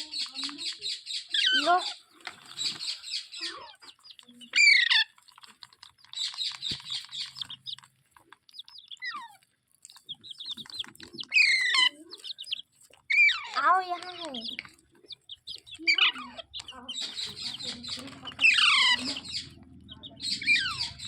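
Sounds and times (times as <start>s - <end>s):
parakeet chirping and squawking: 0.0s - 21.0s.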